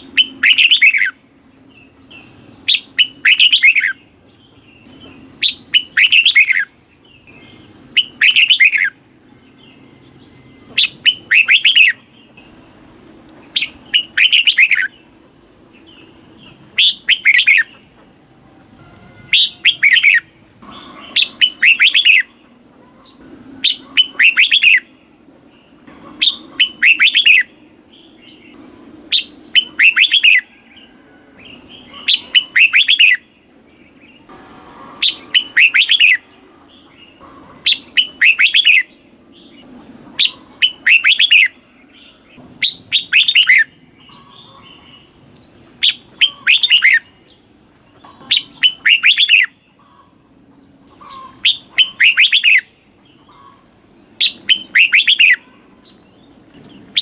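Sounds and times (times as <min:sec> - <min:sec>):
bird singing rippling phrases: 0:00.0 - 0:57.0.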